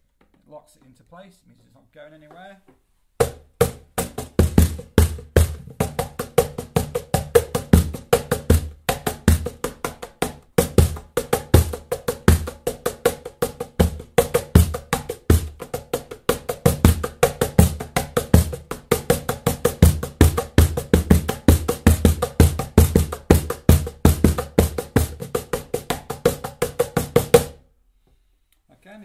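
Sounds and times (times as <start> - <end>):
cajon played by hand: 3.2 - 27.6.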